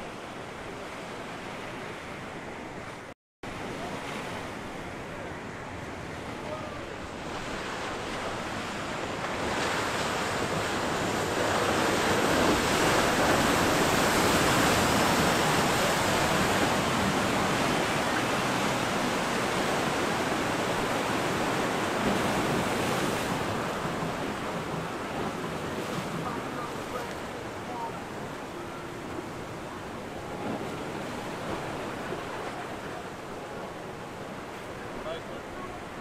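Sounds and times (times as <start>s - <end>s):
boat hull rushing water: 0.0s - 36.0s
surf: 0.0s - 36.0s.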